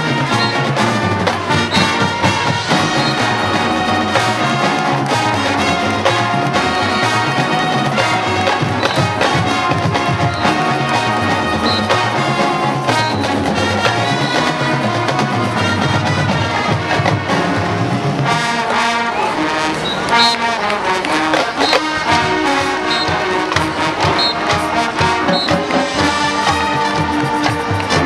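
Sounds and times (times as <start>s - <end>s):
drums: 0.0s - 28.0s
marching band brass: 0.0s - 28.0s.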